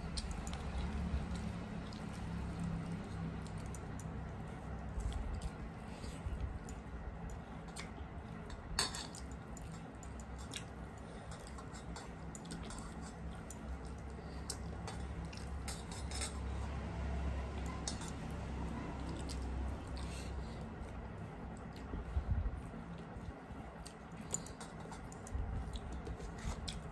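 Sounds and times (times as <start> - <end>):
chewing: 0.0 - 26.9.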